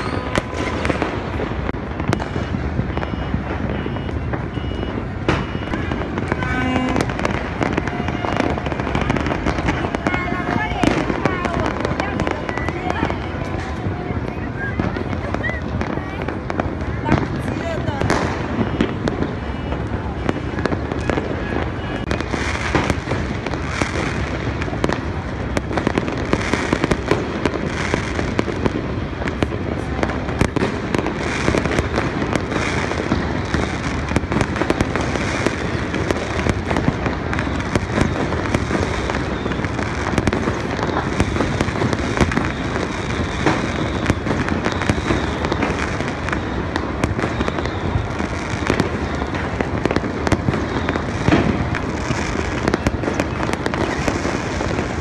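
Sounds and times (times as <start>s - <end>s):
firecrackers crackling and popping: 0.0s - 55.0s
loud firework bangs: 0.0s - 55.0s.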